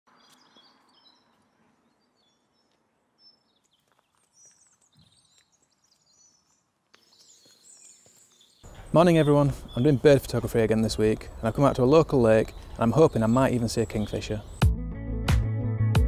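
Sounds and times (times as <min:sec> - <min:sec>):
small birds chirping: 0:00.1 - 0:14.7.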